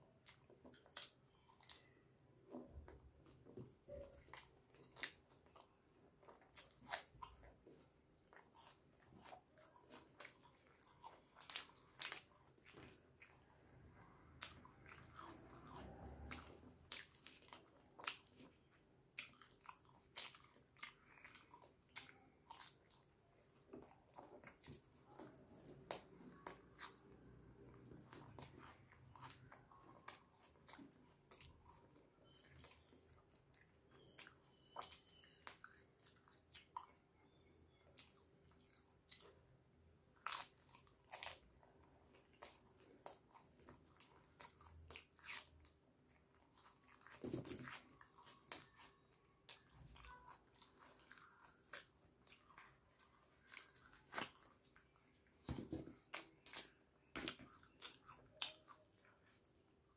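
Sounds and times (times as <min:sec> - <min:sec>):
fingers squishing and tearing bread: 0:00.0 - 0:59.9
wet chewing and lip smacking: 0:00.0 - 0:59.9.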